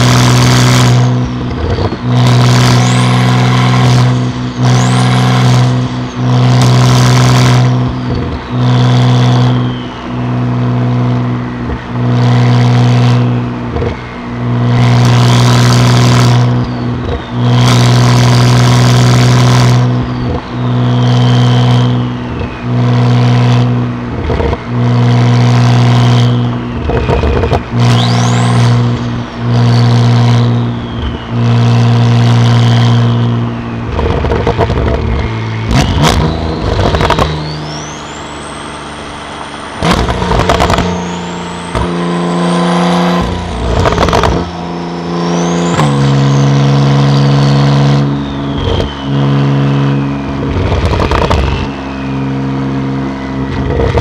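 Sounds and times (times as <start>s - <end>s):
car engine driving: 0.0s - 54.0s
high whine: 0.0s - 54.0s.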